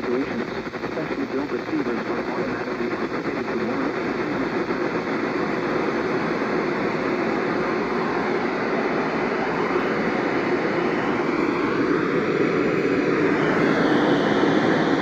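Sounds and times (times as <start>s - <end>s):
radio static: 0.0s - 15.0s.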